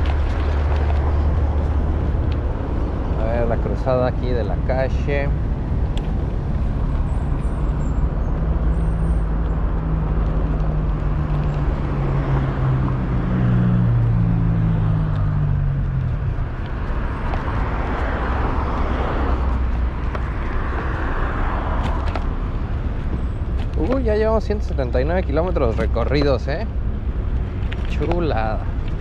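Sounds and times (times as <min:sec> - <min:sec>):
road traffic noise: 0:00.0 - 0:29.0
vehicle engine hum: 0:00.0 - 0:29.0.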